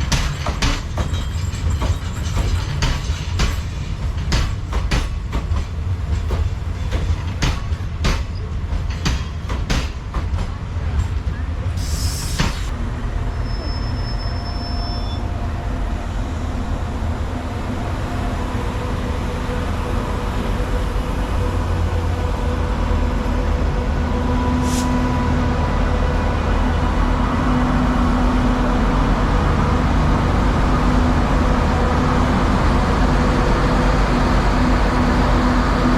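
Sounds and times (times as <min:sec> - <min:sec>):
train rumbling: 0:00.0 - 0:35.9.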